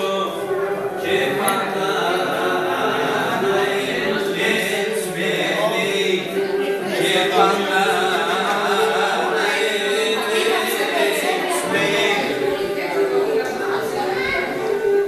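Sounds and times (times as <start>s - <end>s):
voices singing folk song: 0.0s - 15.0s.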